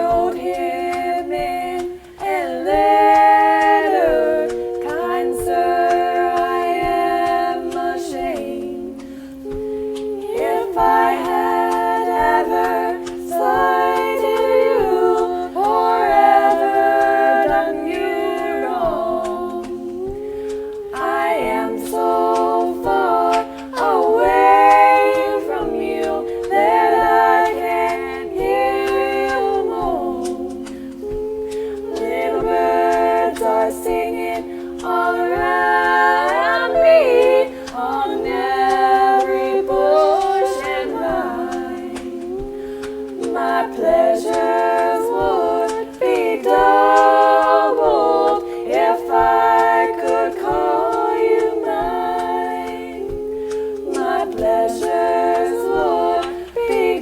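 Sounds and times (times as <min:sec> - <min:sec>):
a cappella harmony singing: 0:00.0 - 0:57.0.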